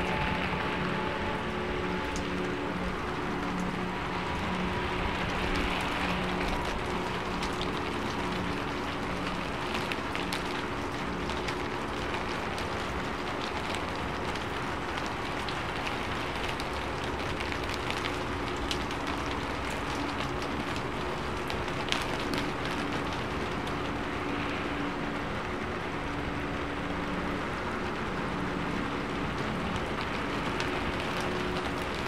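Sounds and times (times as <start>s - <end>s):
raindrops ticking on a surface: 0.0s - 32.0s
steady rain hiss: 0.0s - 32.0s.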